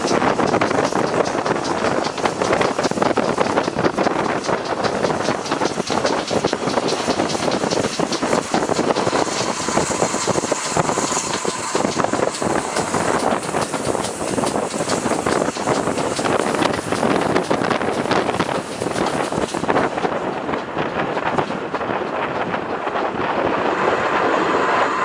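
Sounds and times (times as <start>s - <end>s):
train rushing with rapid clatter: 0.0s - 25.0s.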